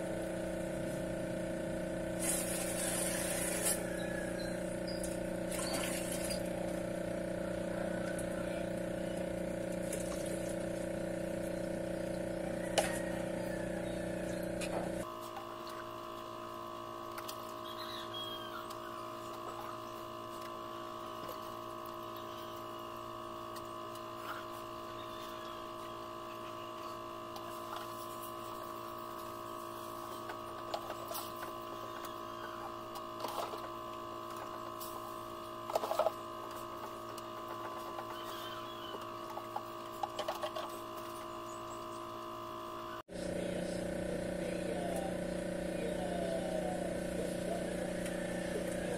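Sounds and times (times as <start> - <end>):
electric motor hum: 0.0 - 48.9.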